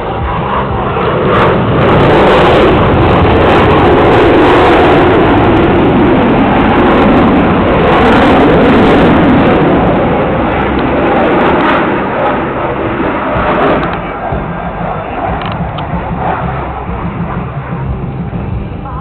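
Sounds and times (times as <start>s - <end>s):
jet engine roar overhead: 0.0s - 19.0s.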